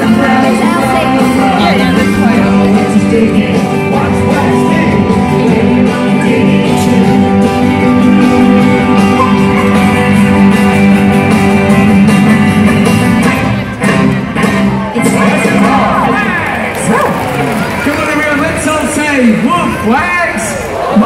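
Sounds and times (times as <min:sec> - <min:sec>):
live band with guitars: 0:00.0 - 0:21.0.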